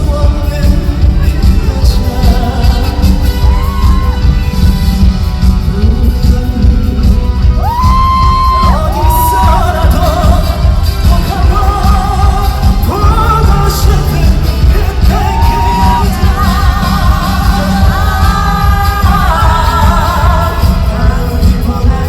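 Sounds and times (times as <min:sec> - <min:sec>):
band with heavy low beat: 0:00.0 - 0:22.0.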